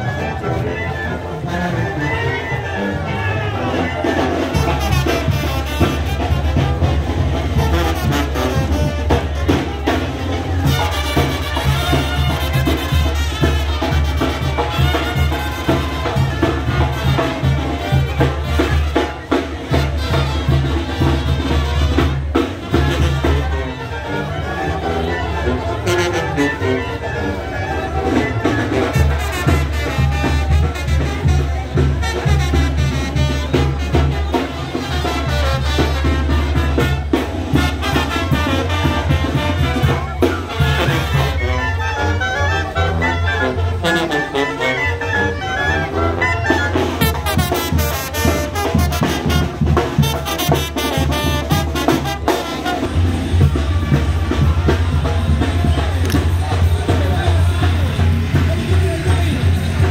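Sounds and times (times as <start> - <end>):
brass band playing: 0.0 - 59.9
tuba bass line: 0.0 - 59.9.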